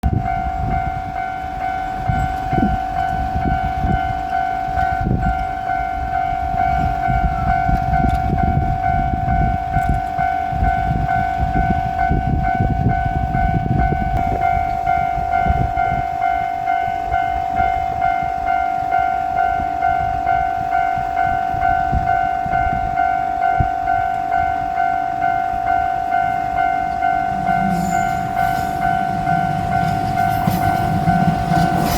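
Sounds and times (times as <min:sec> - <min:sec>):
level-crossing warning bell: 0:00.0 - 0:31.9
train rumbling with wheels clattering: 0:00.0 - 0:31.9.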